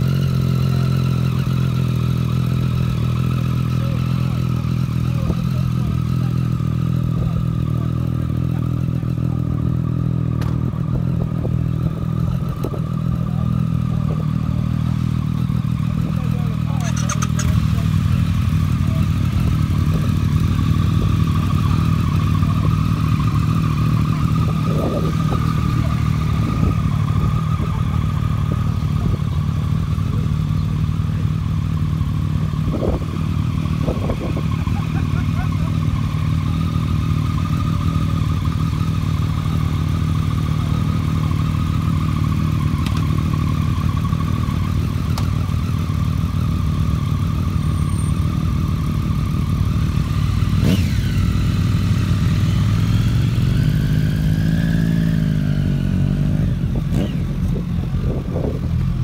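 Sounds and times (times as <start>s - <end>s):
motorcycle engines idling: 0.0s - 59.0s.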